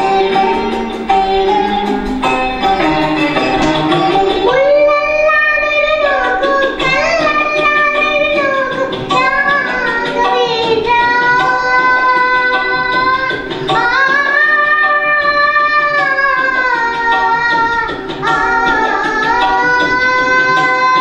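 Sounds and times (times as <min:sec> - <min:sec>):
girl singing into a microphone: 0:00.0 - 0:21.0.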